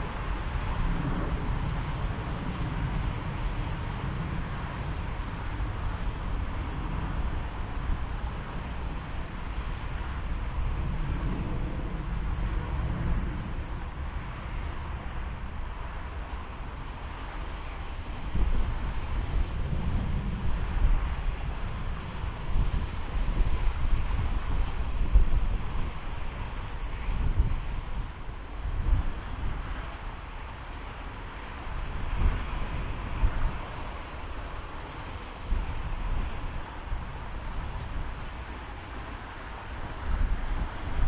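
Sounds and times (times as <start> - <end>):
distant jet engine rush: 0.0 - 41.0
wind buffeting microphone: 0.0 - 41.0.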